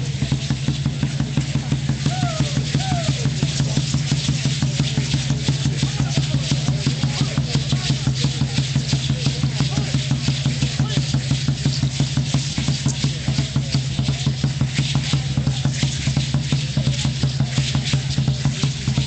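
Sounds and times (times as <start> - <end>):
faint crowd voices: 0.0 - 19.0
fast steady drumbeat: 0.0 - 19.0.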